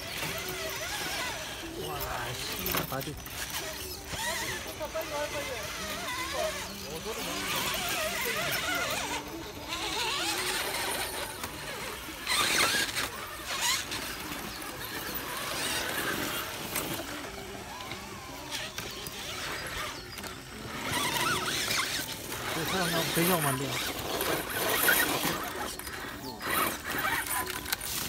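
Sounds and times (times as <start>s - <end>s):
electric motors whining: 0.0s - 28.0s
scraping on rock: 0.0s - 28.0s.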